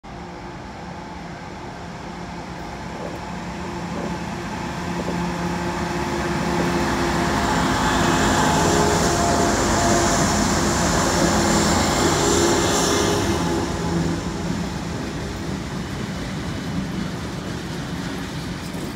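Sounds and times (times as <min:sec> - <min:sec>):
diesel locomotives engine rumble: 0:00.0 - 0:18.9.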